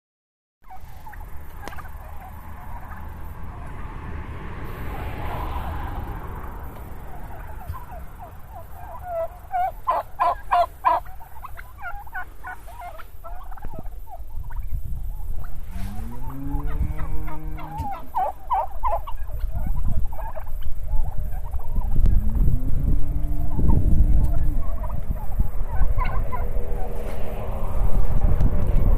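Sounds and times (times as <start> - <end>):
turkeys gobbling: 0.6 - 28.2.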